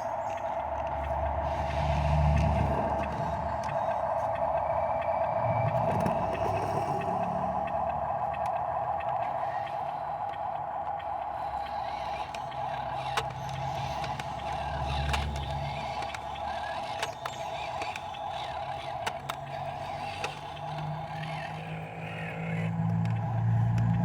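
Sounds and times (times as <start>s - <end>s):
dump truck engine whining: 0.0s - 24.0s
sharp clicks and rattles: 0.0s - 24.0s.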